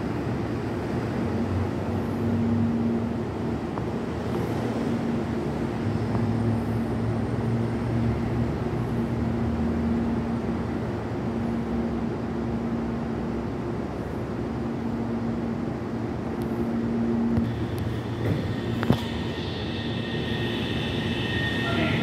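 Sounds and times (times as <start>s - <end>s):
electric train humming: 0.0s - 22.0s.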